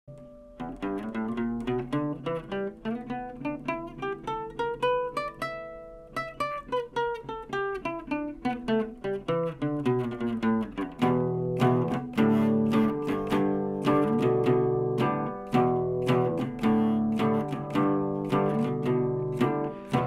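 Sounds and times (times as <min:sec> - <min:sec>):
fingerstyle acoustic guitar: 0:00.1 - 0:20.0.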